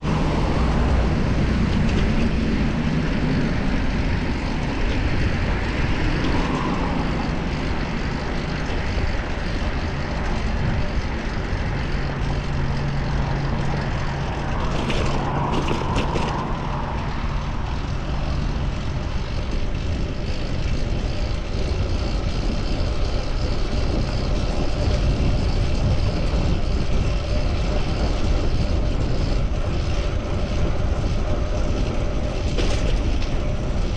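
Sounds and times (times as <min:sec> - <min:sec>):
motor vehicle traffic: 0:00.0 - 0:33.9
wind and road noise: 0:00.0 - 0:33.9.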